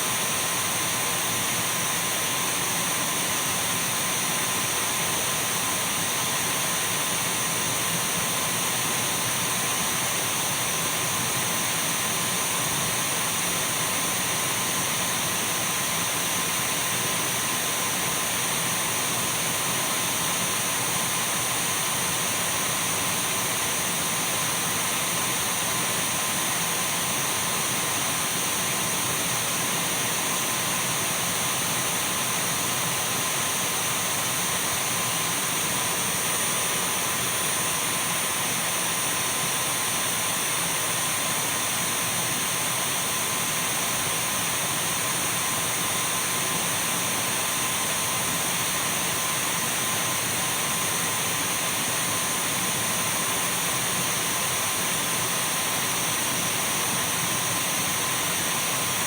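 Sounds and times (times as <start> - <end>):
cordless vacuum running: 0.0 - 59.0.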